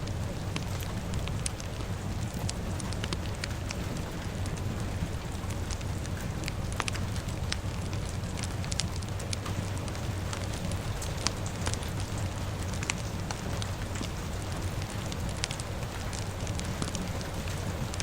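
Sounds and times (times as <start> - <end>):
fire crackling and popping: 0.0 - 18.0
rain hissing: 0.0 - 18.0.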